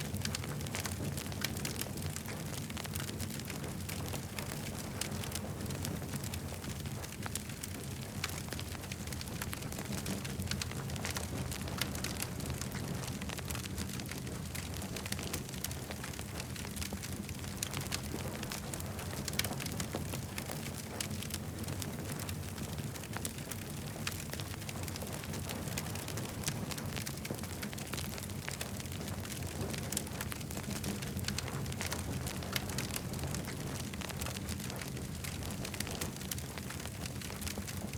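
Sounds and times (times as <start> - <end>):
campfire crackling and popping: 0.0 - 37.9
low fire rumble: 0.0 - 37.9.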